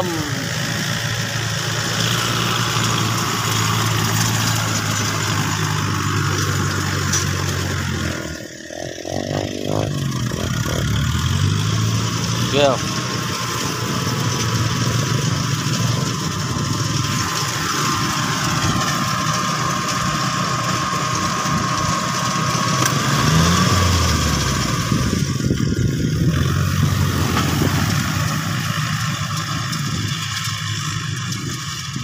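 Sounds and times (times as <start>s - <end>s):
engine revving: 0.0s - 32.0s
motorcycle engines running: 0.0s - 32.0s
tractor engine running: 0.0s - 32.0s.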